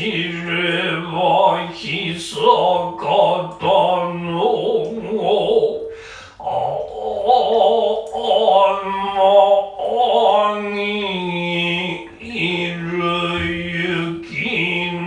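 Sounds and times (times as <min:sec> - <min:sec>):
person chanting: 0:00.0 - 0:15.0.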